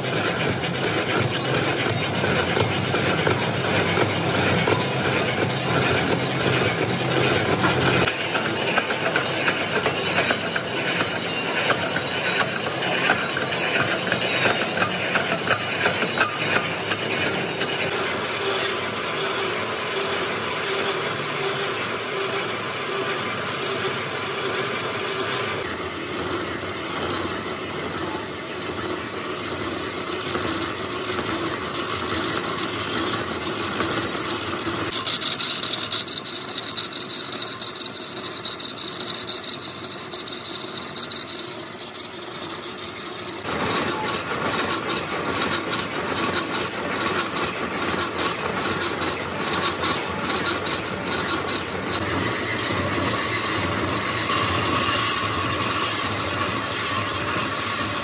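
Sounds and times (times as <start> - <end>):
high cutting whine: 0.0 - 58.0
lathe machine drone: 0.0 - 58.0.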